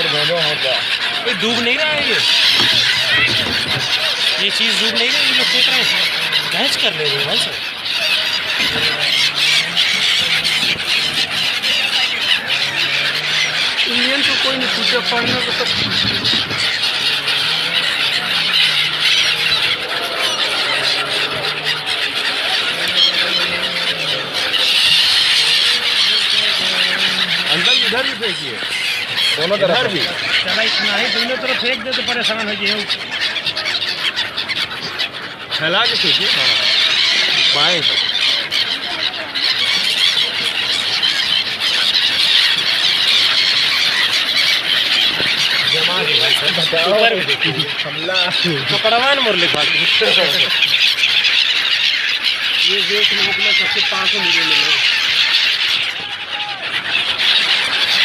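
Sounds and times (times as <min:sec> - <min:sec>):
gulls squealing and calling: 0:00.0 - 0:58.0.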